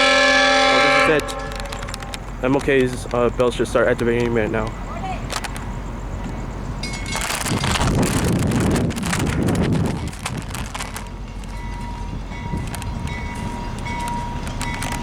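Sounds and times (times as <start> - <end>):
train wheels clattering: 0.0 - 15.0
wind buffeting microphone: 0.0 - 15.0.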